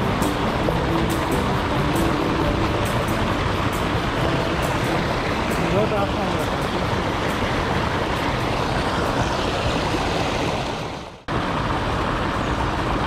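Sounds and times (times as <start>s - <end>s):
turbulent water rushing: 0.0s - 13.0s.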